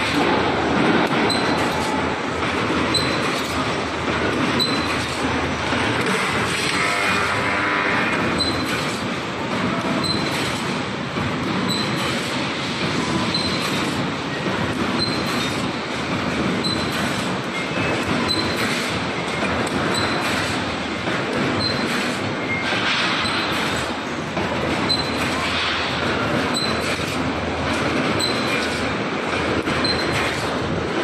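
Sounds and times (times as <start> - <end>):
welding machine running: 0.0 - 31.0.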